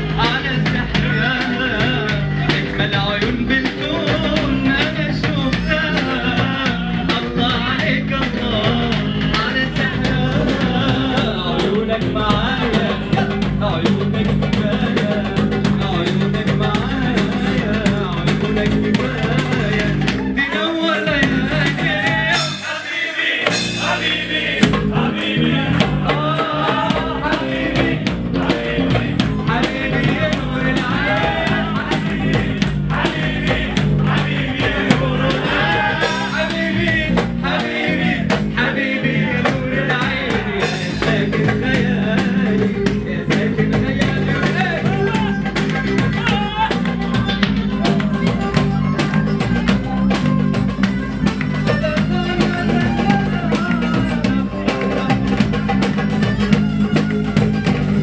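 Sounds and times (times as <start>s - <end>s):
percussion and cymbal beat: 0.0s - 58.0s.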